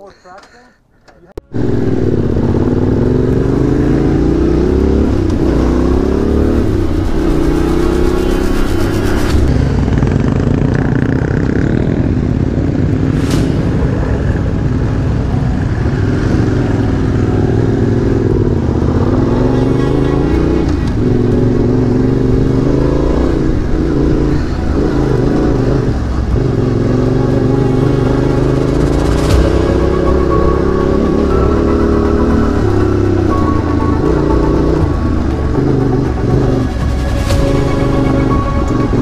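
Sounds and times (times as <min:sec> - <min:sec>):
wind and road noise: 0:00.0 - 0:39.0
motorcycle engine revving: 0:01.5 - 0:39.0.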